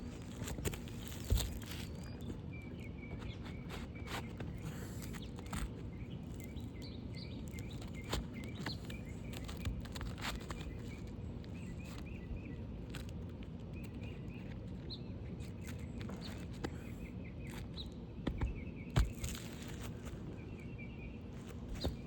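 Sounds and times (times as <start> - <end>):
light clicks and rustles: 0.0 - 20.4
small birds chirping: 0.0 - 22.0.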